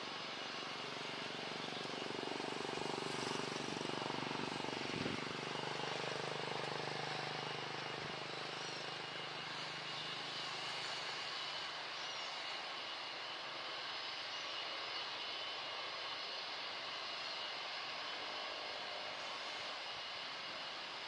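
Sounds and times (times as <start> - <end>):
jet engines rumbling and whining: 0.0 - 21.0.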